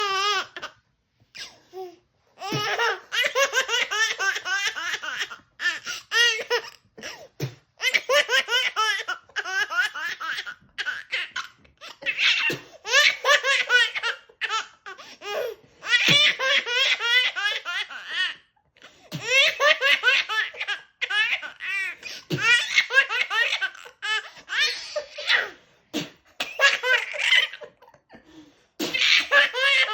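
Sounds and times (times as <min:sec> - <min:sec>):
baby laughing: 0:00.0 - 0:00.7, 0:02.4 - 0:07.2, 0:07.8 - 0:18.4, 0:19.2 - 0:25.6, 0:26.4 - 0:28.2, 0:28.8 - 0:29.9.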